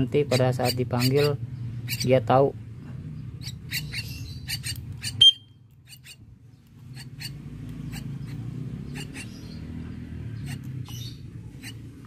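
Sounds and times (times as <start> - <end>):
nestlings begging squeaks: 0.0 - 2.5, 3.2 - 12.0.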